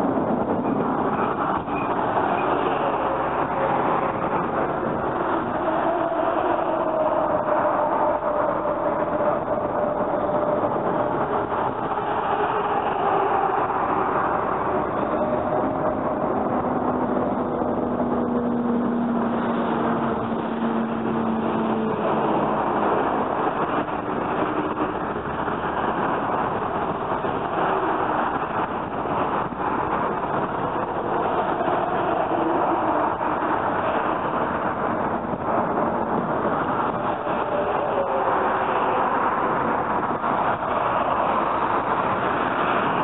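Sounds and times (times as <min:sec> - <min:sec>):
heavy road traffic: 0:00.0 - 0:43.0
low engine hum: 0:00.0 - 0:43.0.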